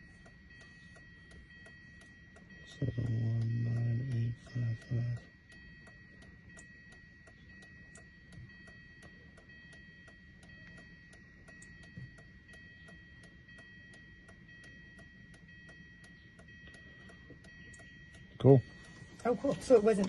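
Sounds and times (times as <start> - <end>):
steady ticking: 0.0 - 20.0.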